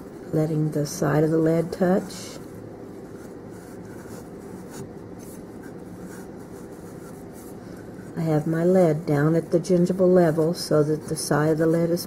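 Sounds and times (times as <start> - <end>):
graphite scraping on plaster cast: 0.1 - 12.0.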